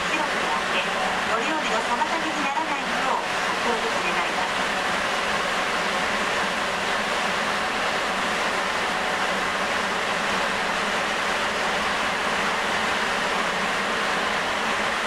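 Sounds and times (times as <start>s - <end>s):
subway train running in tunnel: 0.0s - 15.0s.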